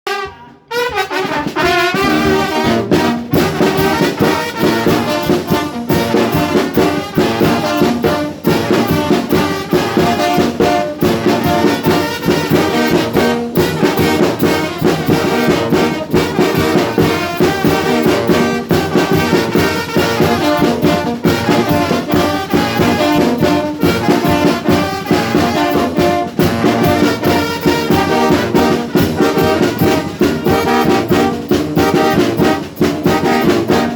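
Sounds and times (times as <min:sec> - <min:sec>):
brass band playing: 0:00.0 - 0:33.9
percussion beat: 0:00.1 - 0:33.9.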